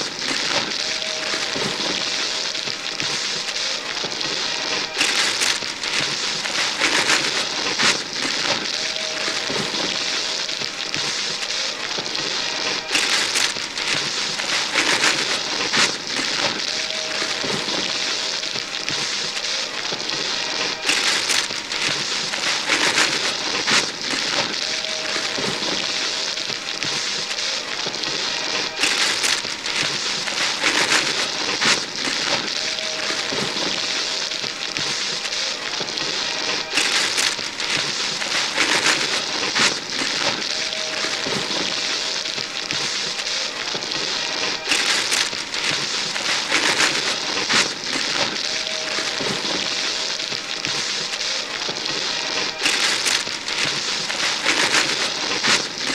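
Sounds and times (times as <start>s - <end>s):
paper ripping: 0.0s - 55.9s
wrapping paper crinkling: 0.0s - 55.9s.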